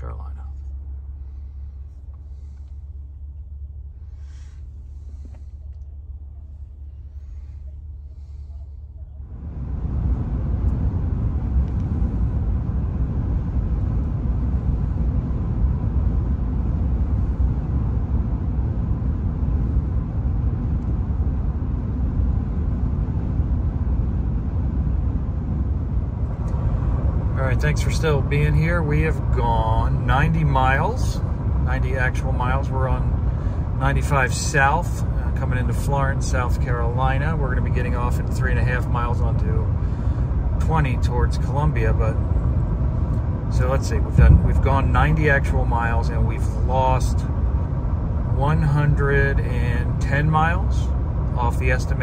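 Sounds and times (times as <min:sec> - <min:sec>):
cabin road noise: 0:00.0 - 0:52.0.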